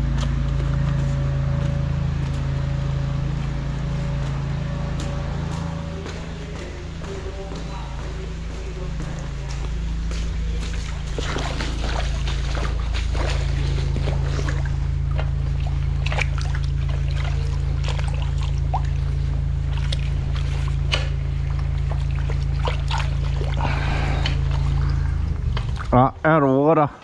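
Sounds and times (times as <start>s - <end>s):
engine humming: 0.0s - 27.0s
water sloshing and splashing: 0.0s - 27.0s.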